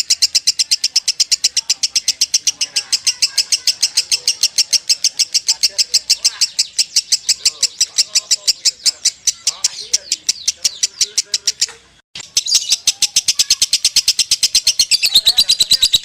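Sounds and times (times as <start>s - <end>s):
lovebird chattering: 0.0s - 16.0s.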